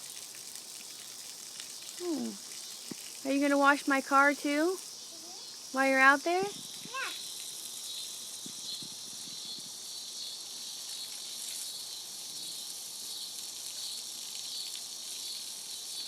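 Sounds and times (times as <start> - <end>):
insects chirping: 0.9 - 16.0.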